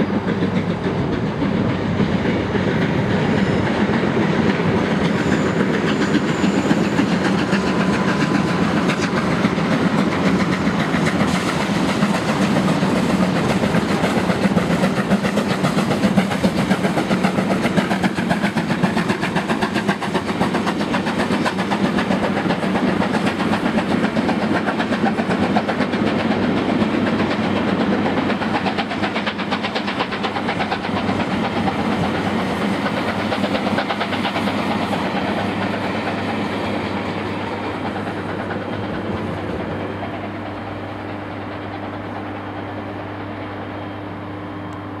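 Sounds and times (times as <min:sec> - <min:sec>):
train wheels clattering over rail joints: 0:00.0 - 0:43.1.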